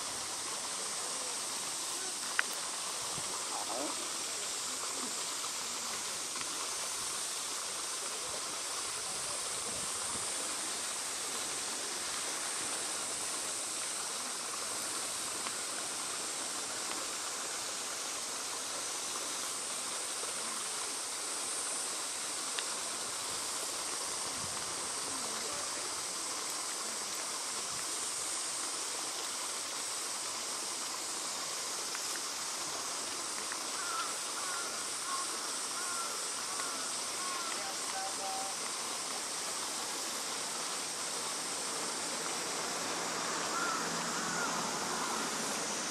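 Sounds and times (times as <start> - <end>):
mountain stream flowing: 0.0 - 45.9.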